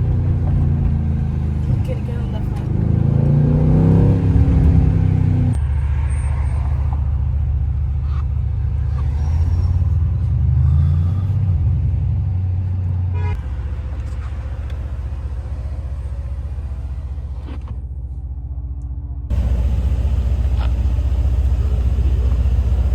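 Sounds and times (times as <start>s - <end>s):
car engine rumbling: 0.0s - 22.9s.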